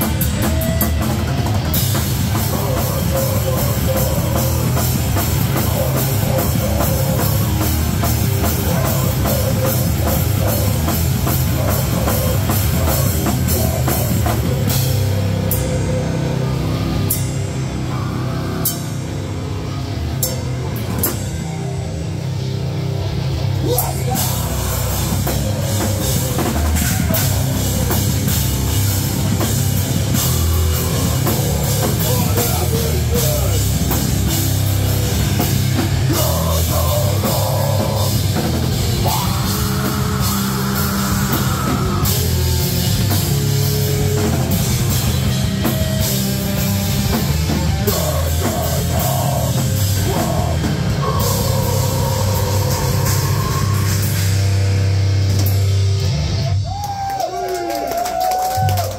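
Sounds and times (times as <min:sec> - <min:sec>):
bass guitar: 0:00.0 - 0:58.9
drum kit: 0:00.0 - 0:58.9
electric guitar: 0:00.0 - 0:58.9
heavy rock band playing: 0:00.0 - 0:58.9.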